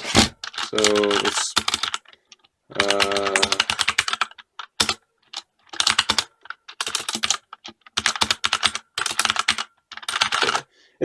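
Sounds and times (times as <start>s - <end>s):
mechanical keyboard typing: 0.2s - 10.7s.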